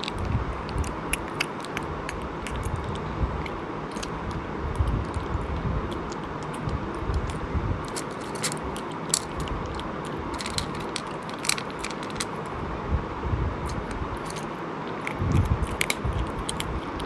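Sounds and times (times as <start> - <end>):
person chewing and biting: 0.0 - 12.5, 13.7 - 17.0
sharp clicks and crackles: 0.0 - 12.5, 13.7 - 17.0.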